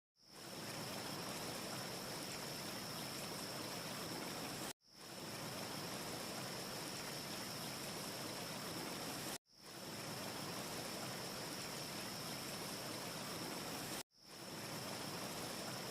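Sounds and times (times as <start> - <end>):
wind: 0.2 - 15.9.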